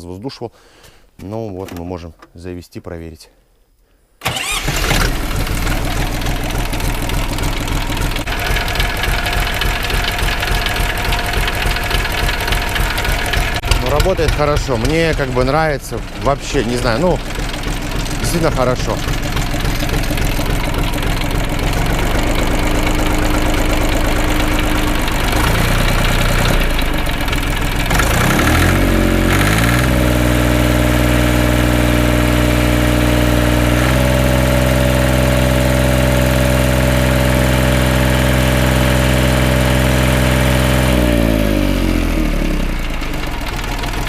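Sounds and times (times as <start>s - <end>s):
diesel tractor engine idling and revving: 4.2s - 44.0s.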